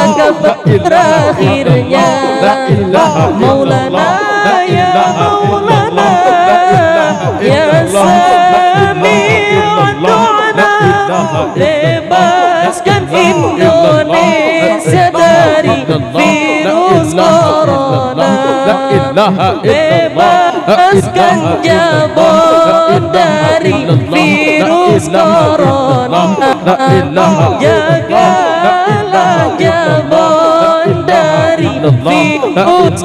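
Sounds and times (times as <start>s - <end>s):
group singing unaccompanied: 0.0s - 33.0s
low thumps in a steady beat: 0.0s - 33.0s.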